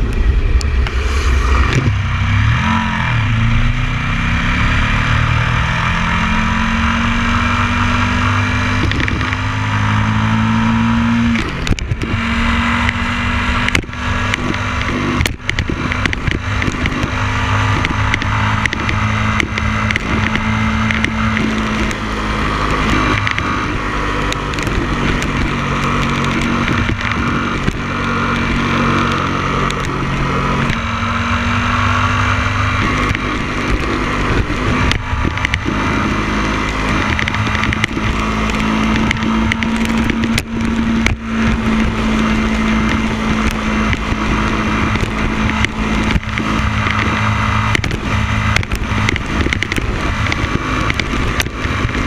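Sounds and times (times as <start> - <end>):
motorcycle engine running: 0.0 - 52.0
wind rush: 0.0 - 52.0.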